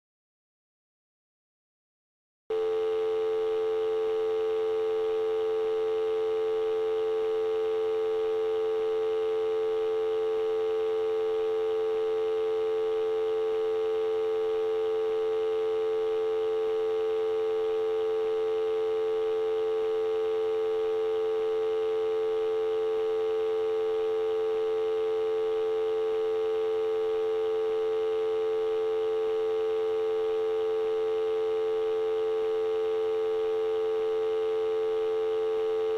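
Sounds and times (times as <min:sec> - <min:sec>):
telephone dial tone: 0:02.6 - 0:35.9.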